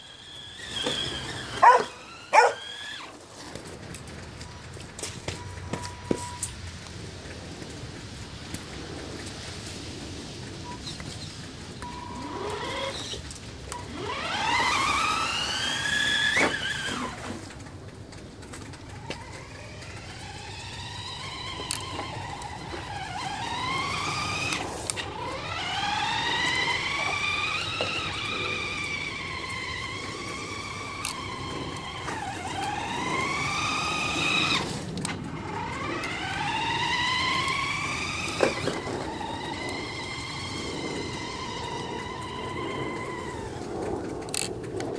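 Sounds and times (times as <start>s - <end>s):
electric motor whine: 0.0s - 3.6s, 10.7s - 44.6s.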